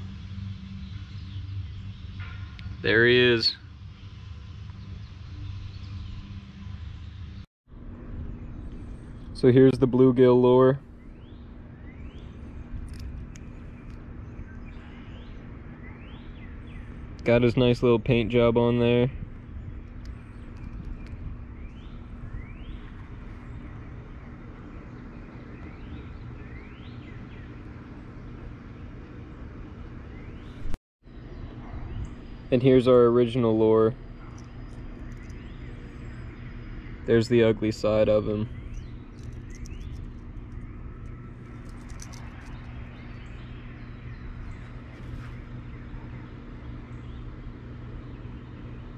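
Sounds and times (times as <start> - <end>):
bird chirping: 0.0 - 7.4, 10.9 - 17.7, 19.4 - 29.4, 30.0 - 48.9
faint hum: 0.0 - 48.9.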